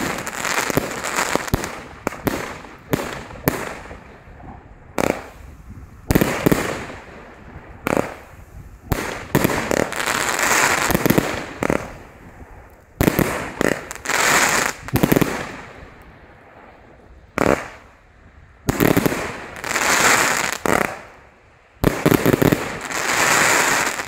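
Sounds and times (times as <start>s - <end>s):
fireworks crackle: 0.0s - 24.0s.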